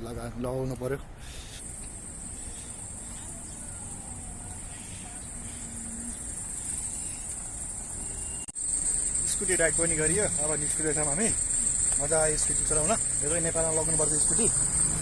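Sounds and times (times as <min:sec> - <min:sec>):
insects chirring: 0:01.4 - 0:15.0.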